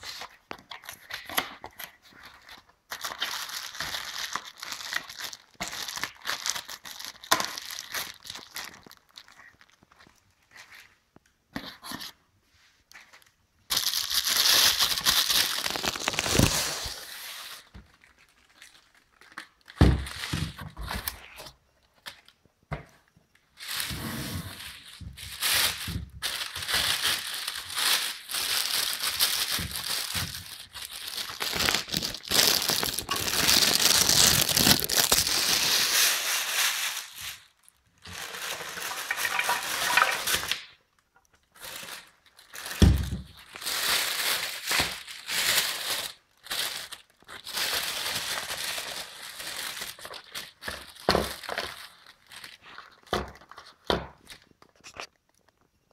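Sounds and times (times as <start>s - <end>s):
plastic bag crinkling: 0.0s - 11.0s, 13.1s - 22.2s, 23.4s - 55.9s.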